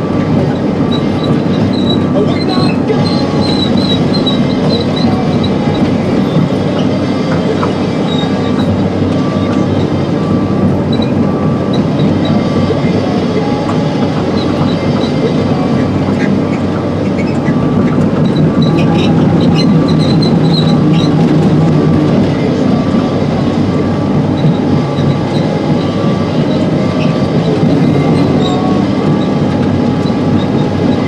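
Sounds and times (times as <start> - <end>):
excavator engine and hydraulics: 0.0 - 31.0
steel tracks clanking: 0.0 - 31.0
tracks squealing: 0.0 - 31.0.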